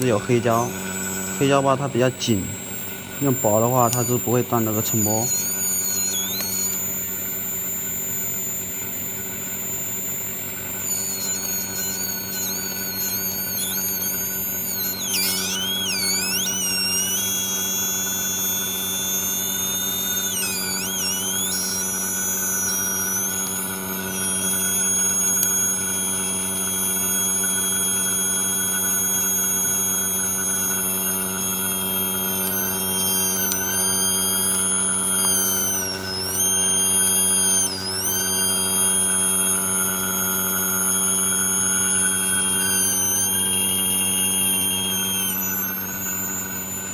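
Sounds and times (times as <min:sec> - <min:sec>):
high whining tones swooping: 0:00.0 - 0:46.9
steady electrical hum: 0:00.0 - 0:46.9.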